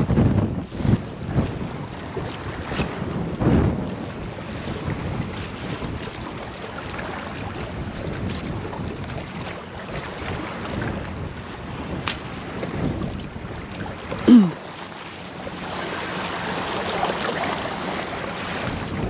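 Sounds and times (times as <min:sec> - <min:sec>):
wind buffeting microphone: 0:00.0 - 0:14.3, 0:15.4 - 0:19.0.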